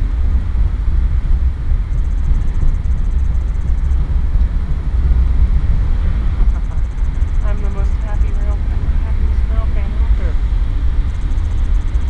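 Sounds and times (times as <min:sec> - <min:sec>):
freight train rumbling: 0:00.0 - 0:12.0.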